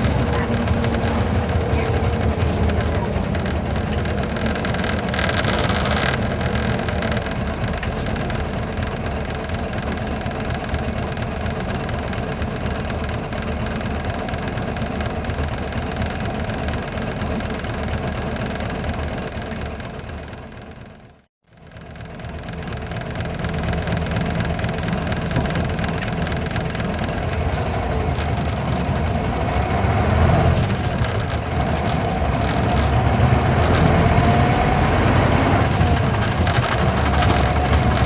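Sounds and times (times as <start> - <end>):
diesel coach engine running: 0.0 - 38.0.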